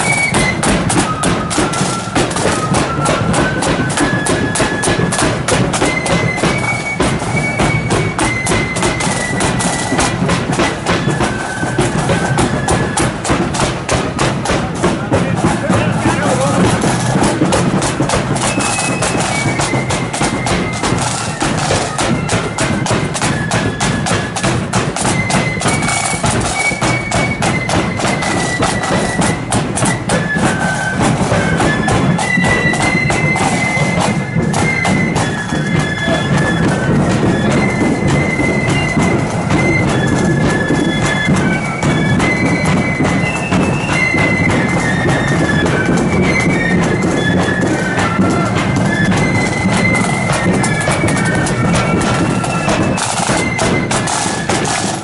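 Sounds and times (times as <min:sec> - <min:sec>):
pipes playing melody: 0:00.0 - 0:55.0
snare drum beats: 0:00.0 - 0:55.0.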